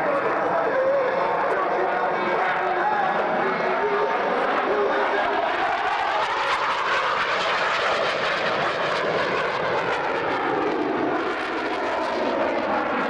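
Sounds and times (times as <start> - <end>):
jet aircraft passing: 0.0 - 13.0.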